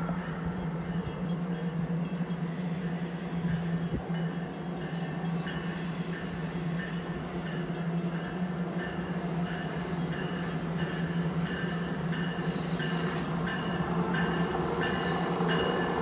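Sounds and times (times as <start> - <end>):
train low hum: 0.0 - 16.0
high-pitched hiss from rails: 2.8 - 16.0.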